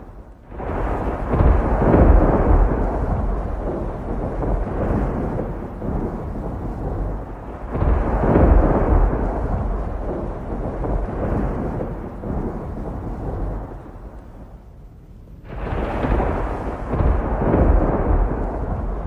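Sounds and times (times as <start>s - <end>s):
deep rolling rumble: 0.0s - 14.8s, 15.4s - 19.0s.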